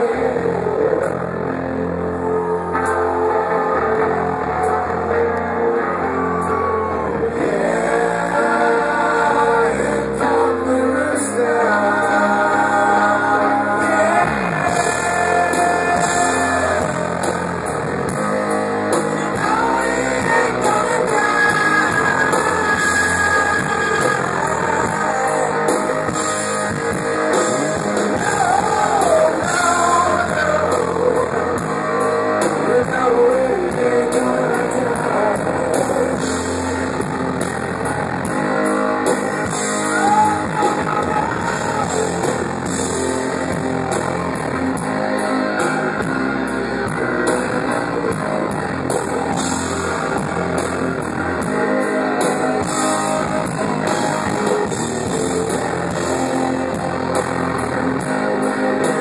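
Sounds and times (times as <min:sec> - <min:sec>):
rock band playing: 0:00.0 - 0:59.0
sung lead vocal: 0:00.0 - 0:59.0.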